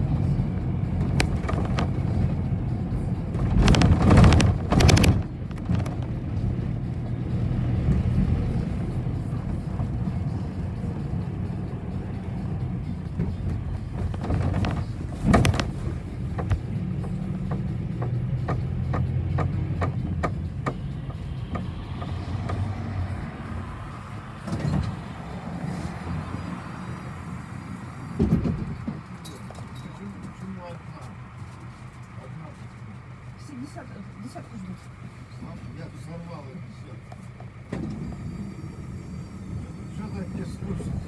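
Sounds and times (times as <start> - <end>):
bus body knocking and rattling: 0.0 - 26.5, 27.8 - 35.8, 37.0 - 41.0
bus engine low hum: 0.0 - 41.0.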